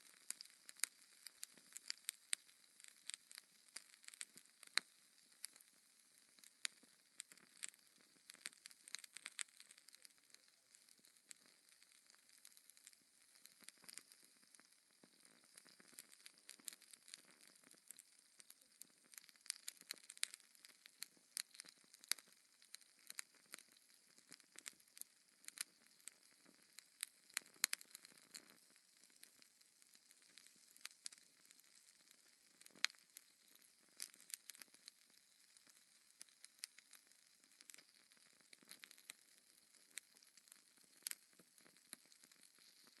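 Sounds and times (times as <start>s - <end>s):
log fire crackling: 0.0s - 36.9s, 37.6s - 40.2s, 40.8s - 43.0s
faint steady hiss: 0.0s - 43.0s.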